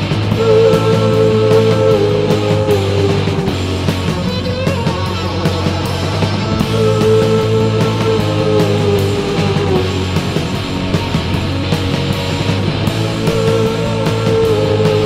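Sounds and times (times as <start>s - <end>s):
bass line: 0.0s - 15.0s
drum and cymbal strokes: 0.0s - 15.0s
electric guitar bending notes: 0.0s - 15.0s.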